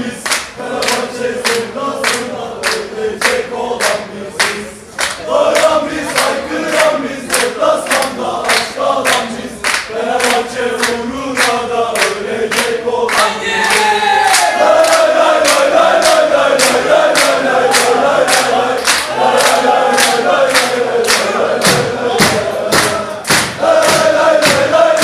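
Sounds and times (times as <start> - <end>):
crowd chanting: 0.0 - 25.0
hand-clapping: 0.2 - 25.0.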